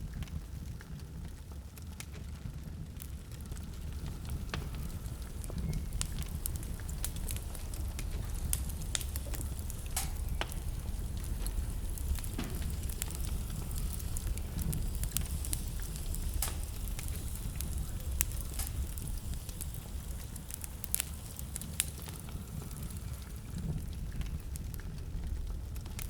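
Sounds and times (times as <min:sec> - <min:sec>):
wood fire crackling: 0:00.0 - 0:26.0
blizzard wind rumbling: 0:02.2 - 0:26.0.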